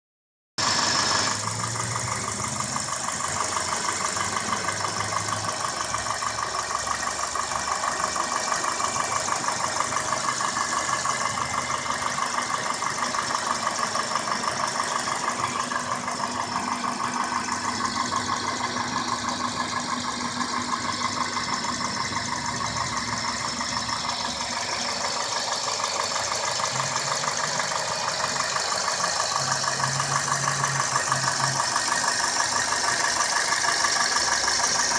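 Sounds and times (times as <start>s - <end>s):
car engine idling: 0.6s - 34.9s
rapid engine ticking: 0.6s - 34.9s.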